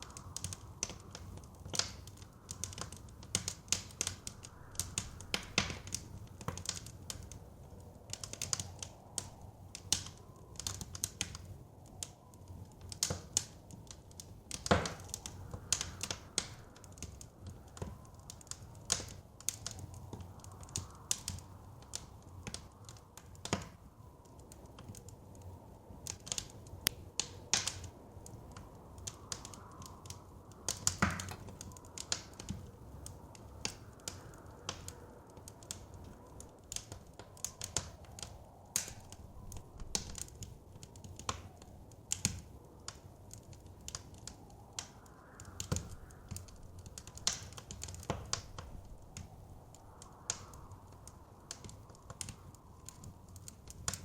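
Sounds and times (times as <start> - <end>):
blizzard wind rumble: 0.0 - 54.0
wood fire crackling: 0.0 - 54.0.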